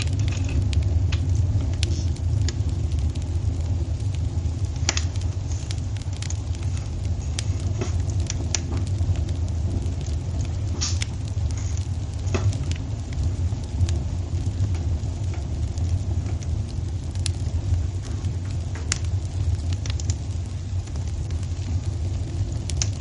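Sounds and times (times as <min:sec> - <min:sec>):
fire crackles and pops: 0:00.0 - 0:23.0
wood fire rumbling: 0:00.0 - 0:23.0.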